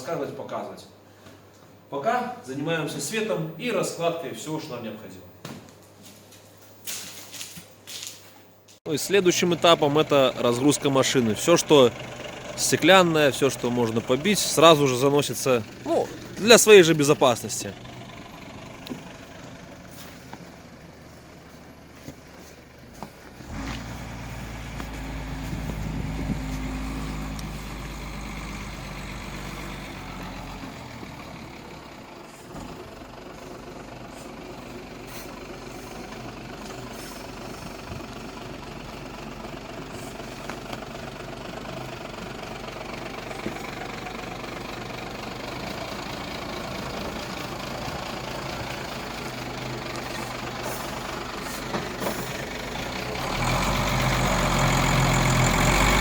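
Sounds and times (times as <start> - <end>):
diesel truck engine running: 8.9 - 56.0.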